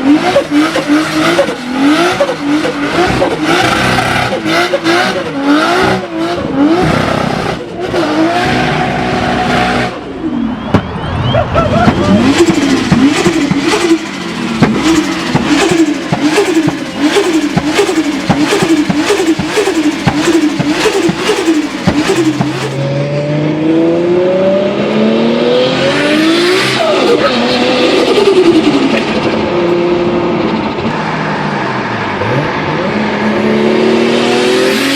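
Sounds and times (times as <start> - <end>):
car accelerating and passing: 0.0 - 34.9
car engine revving with cracks: 0.0 - 34.9.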